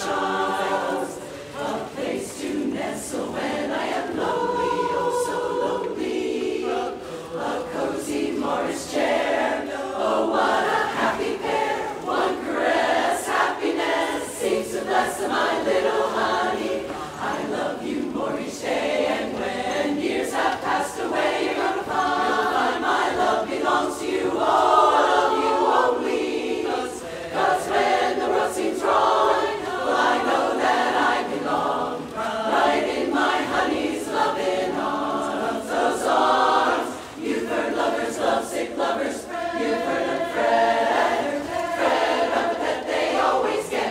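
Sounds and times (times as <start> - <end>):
women's chorus singing a cappella: 0.0 - 43.9.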